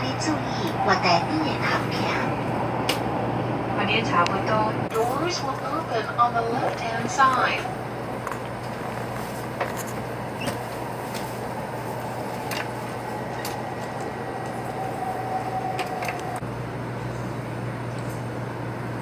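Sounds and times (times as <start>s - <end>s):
train cabin hum: 0.0s - 19.0s.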